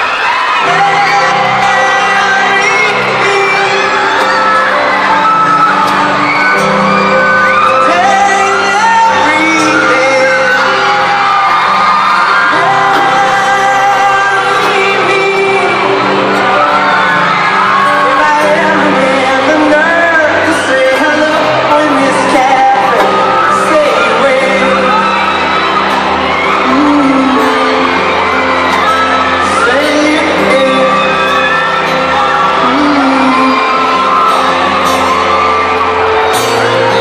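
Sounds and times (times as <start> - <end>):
crowd shouting and whooping: 0.0 - 37.0
live band playing pop ballad: 0.0 - 37.0
man singing: 0.6 - 5.9, 7.8 - 16.8, 17.8 - 25.6, 26.4 - 34.8.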